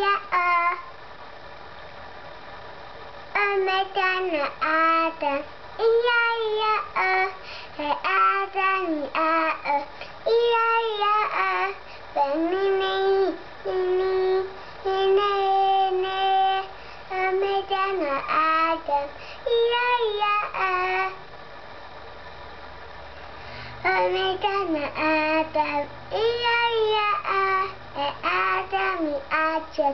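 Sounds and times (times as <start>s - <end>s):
child singing: 0.0s - 0.9s, 3.3s - 21.2s, 23.8s - 29.9s.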